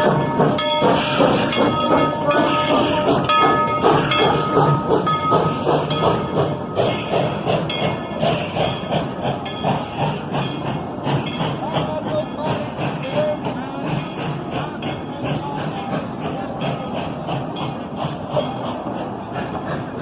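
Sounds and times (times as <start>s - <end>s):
hissing steam: 0.0s - 20.0s
steam locomotive exhaust chuffing: 0.0s - 20.0s.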